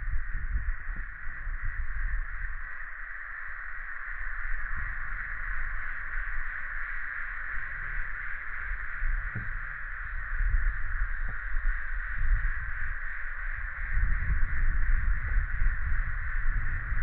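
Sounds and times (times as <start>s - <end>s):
wind buffeting microphone: 0.0s - 2.9s, 4.2s - 17.0s.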